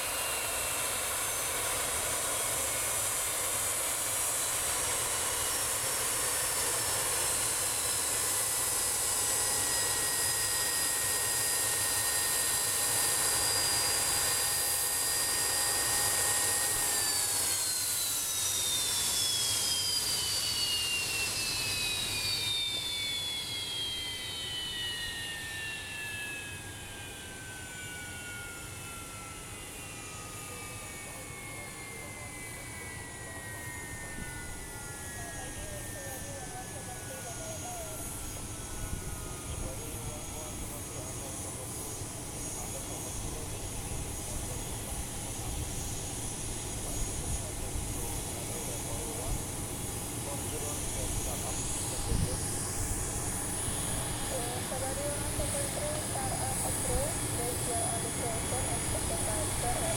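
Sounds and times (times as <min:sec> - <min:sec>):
jet engines idling with whine: 0:00.0 - 0:59.9.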